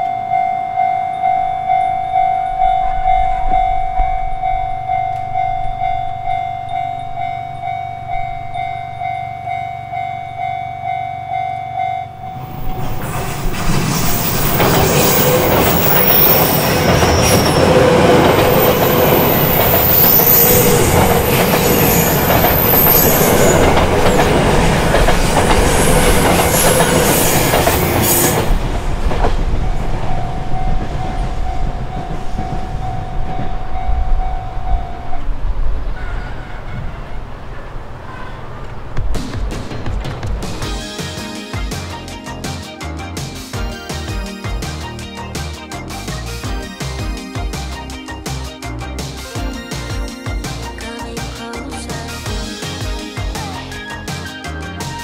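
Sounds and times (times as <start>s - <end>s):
level-crossing electronic bell: 0.0s - 28.5s, 29.6s - 35.2s, 40.7s - 54.8s
train passing: 0.0s - 55.0s.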